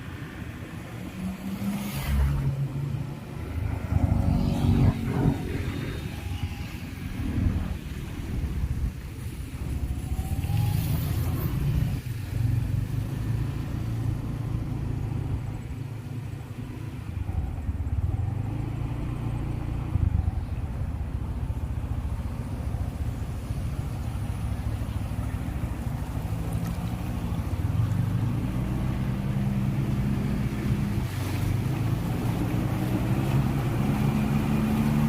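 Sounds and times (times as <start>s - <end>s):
traffic engines rumbling: 0.0s - 35.0s.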